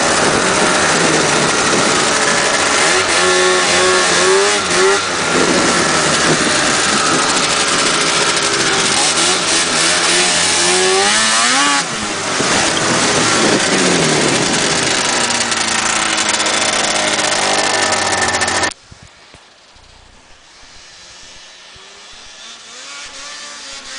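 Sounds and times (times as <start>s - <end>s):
snowmobile engine revving: 0.0s - 18.8s, 19.8s - 23.9s.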